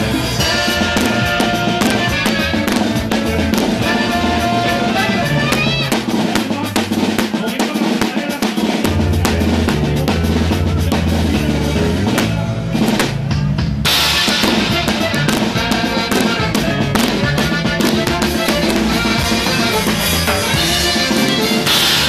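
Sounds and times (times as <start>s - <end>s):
drum kit played hard: 0.0s - 22.0s
live band music: 0.0s - 22.0s.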